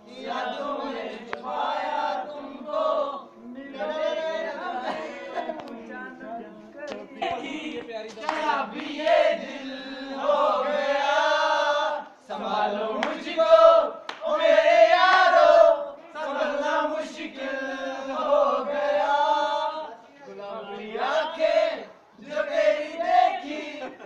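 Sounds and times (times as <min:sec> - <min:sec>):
young men singing together: 0:00.0 - 0:24.0.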